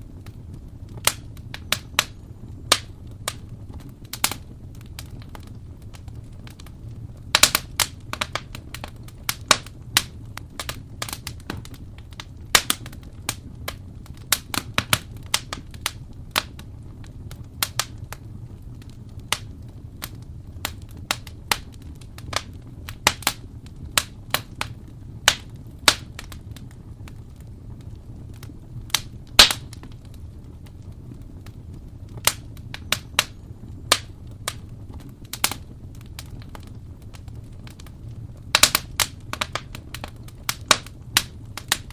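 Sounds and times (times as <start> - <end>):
low rumble of fire: 0.0 - 41.9
wood fire crackling and popping: 0.0 - 41.9.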